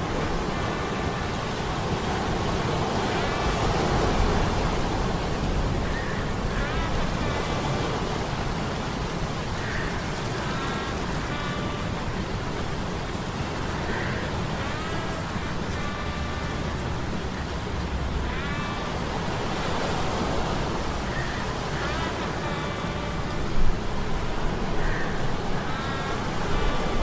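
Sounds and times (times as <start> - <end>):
rain: 0.0 - 27.0
surf rushing: 0.0 - 27.0.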